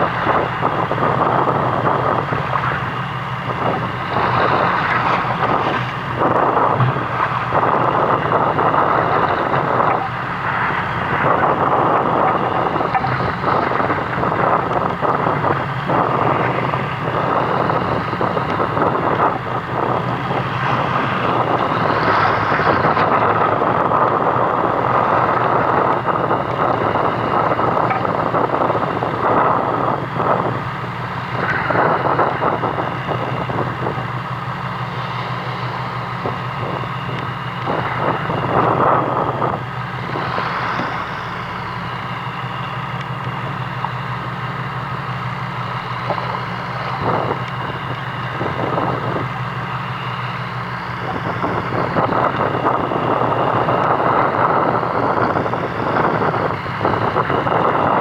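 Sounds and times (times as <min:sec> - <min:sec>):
boat engine humming: 0:00.0 - 0:58.0
wind buffeting microphone: 0:00.0 - 0:58.0.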